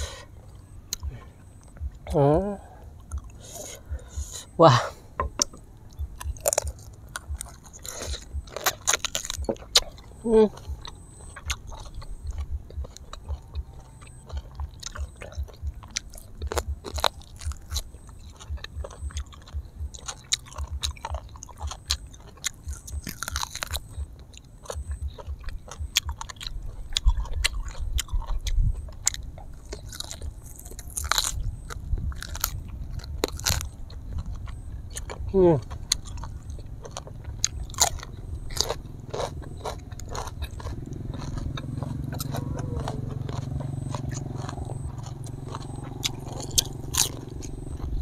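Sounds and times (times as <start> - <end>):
chewing and biting food: 0.0 - 48.0.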